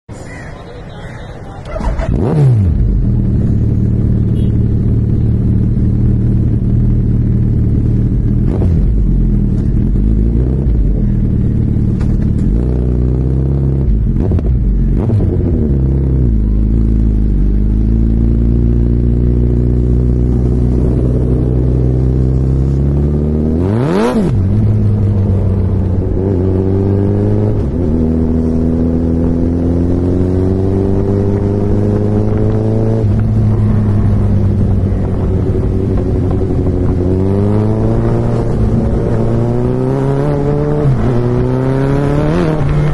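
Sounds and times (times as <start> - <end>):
motorcycle engine accelerating: 1.6 - 42.9.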